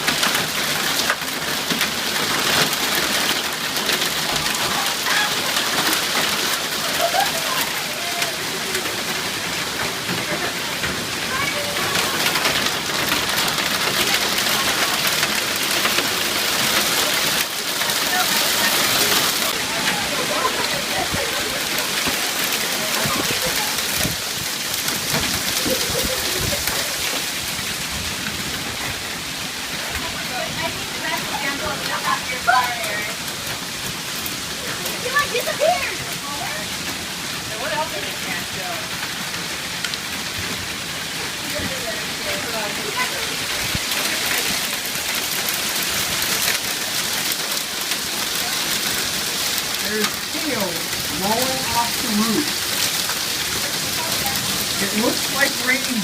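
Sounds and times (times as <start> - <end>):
hail falling: 0.0 - 56.0
hailstones ticking on hard surfaces: 0.0 - 56.0.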